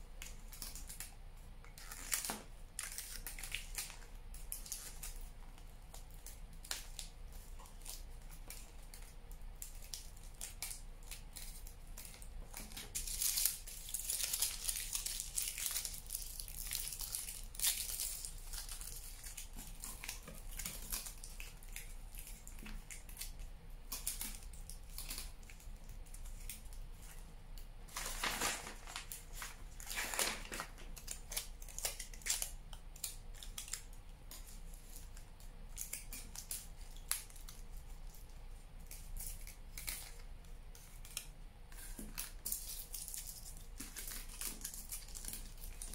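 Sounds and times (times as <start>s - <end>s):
aluminium foil crinkling: 0.2s - 27.3s, 27.9s - 45.9s.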